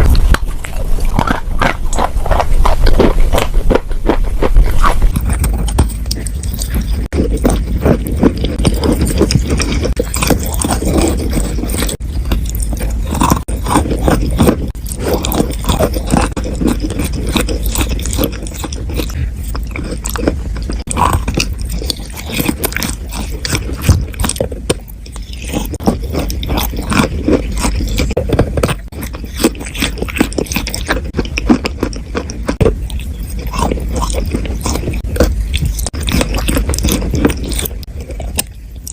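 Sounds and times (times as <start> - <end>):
chewing chalk and clay: 0.0 - 38.9
steady low hum: 0.0 - 38.9.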